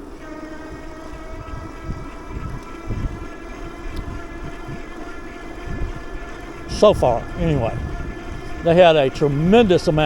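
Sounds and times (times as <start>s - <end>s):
motorized bike motor whine: 0.0s - 10.0s
wind on microphone: 0.7s - 10.0s.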